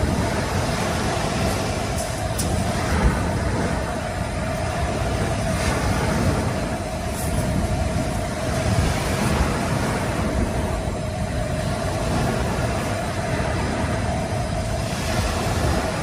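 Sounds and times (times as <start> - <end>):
steady hum: 0.0 - 16.0
waves breaking on beach: 0.0 - 16.0
wind rumbling on microphone: 0.0 - 16.0.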